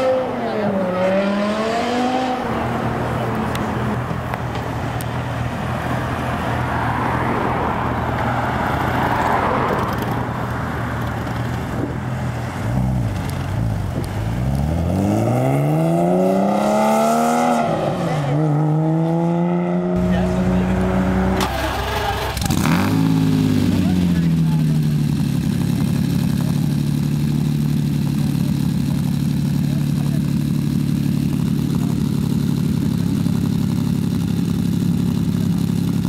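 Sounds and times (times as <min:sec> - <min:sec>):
sports car engine accelerating: 0:00.0 - 0:36.0.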